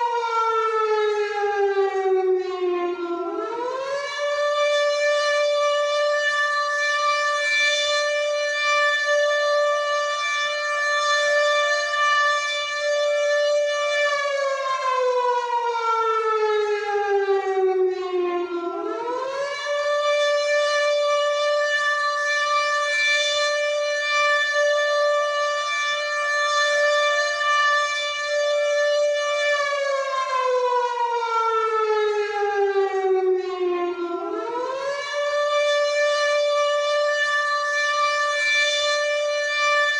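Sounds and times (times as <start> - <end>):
air-raid siren wailing: 0.0 - 39.9.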